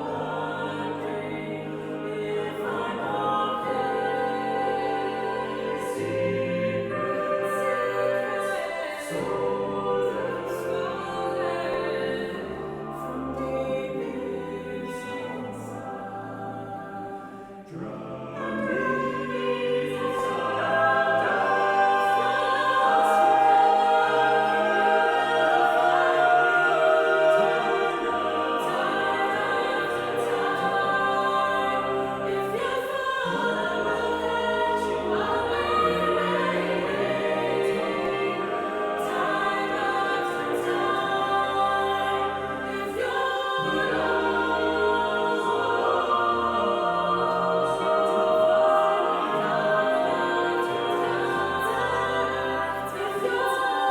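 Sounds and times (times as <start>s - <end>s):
choir singing held chords: 0.0s - 53.9s.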